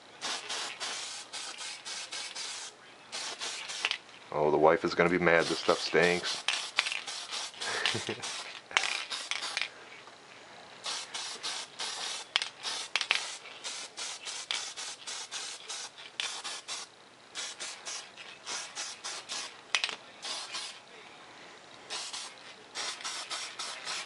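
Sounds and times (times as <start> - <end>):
spray paint can hissing: 0.2 - 4.0, 5.1 - 9.7, 10.8 - 20.8, 21.9 - 24.0.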